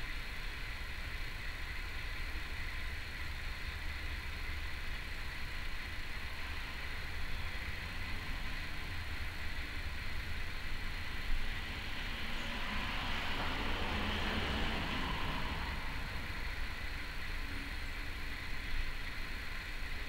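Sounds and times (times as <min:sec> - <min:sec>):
even hiss: 0:00.0 - 0:20.0
faint high steady tone: 0:00.0 - 0:20.0
low hum: 0:00.1 - 0:20.0.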